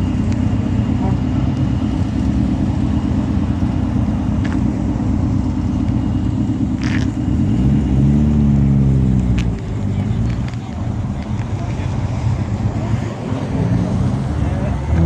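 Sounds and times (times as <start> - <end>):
car engines rumbling: 0.0 - 15.0
car revving and pulling past: 0.0 - 15.0.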